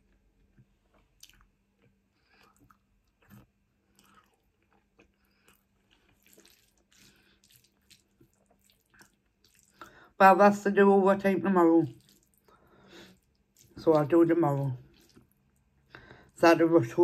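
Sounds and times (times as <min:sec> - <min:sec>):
faint chewing with wet mouth smacks: 0:00.0 - 0:10.1, 0:11.8 - 0:14.0, 0:14.6 - 0:16.3
faint steady hum: 0:00.0 - 0:17.0.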